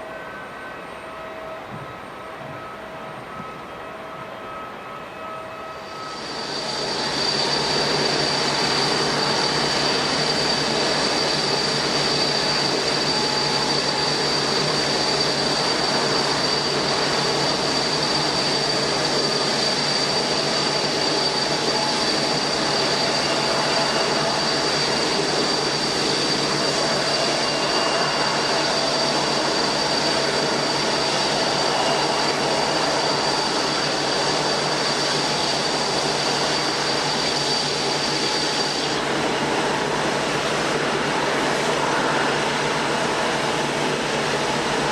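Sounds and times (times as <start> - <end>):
jet engines roaring: 5.6 - 44.9.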